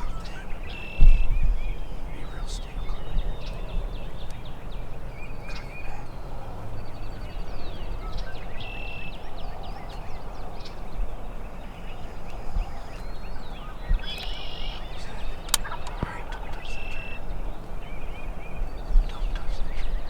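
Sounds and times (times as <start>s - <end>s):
outdoor background noise: 0.0s - 20.0s
songbird chirps: 0.0s - 20.0s
wild turkey calls: 0.0s - 20.0s.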